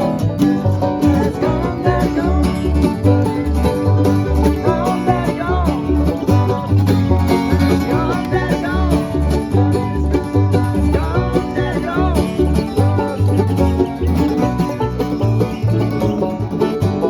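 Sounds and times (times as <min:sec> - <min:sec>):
plucked string picking: 0:00.0 - 0:17.0
pulsing bass line: 0:00.0 - 0:17.0.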